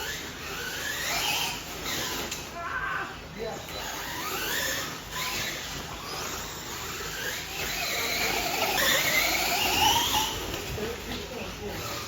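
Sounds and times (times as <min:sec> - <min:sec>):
electric motor whine of rc trucks: 0:00.0 - 0:12.0.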